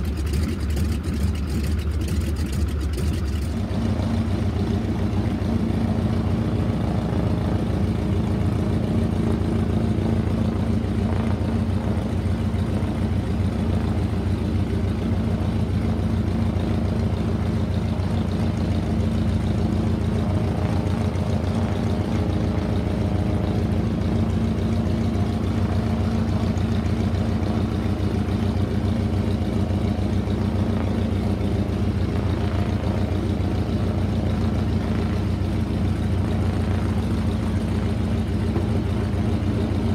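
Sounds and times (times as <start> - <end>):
radial engine idling: 0.0 - 39.9.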